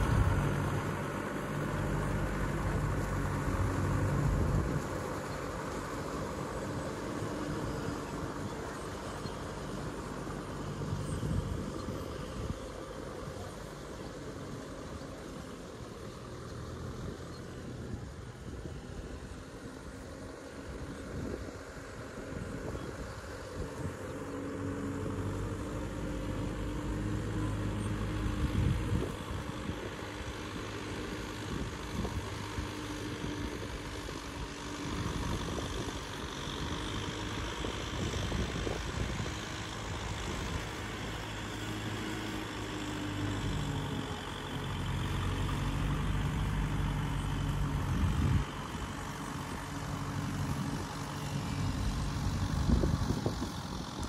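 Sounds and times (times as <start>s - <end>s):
distant tractor diesel engine: 0.0s - 54.0s.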